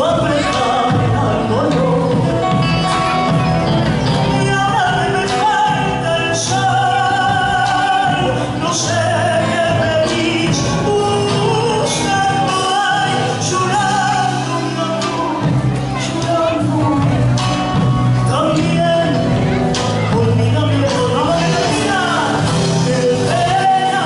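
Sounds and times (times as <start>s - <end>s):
instrumental accompaniment: 0.0s - 24.0s
person singing long notes: 0.0s - 24.0s.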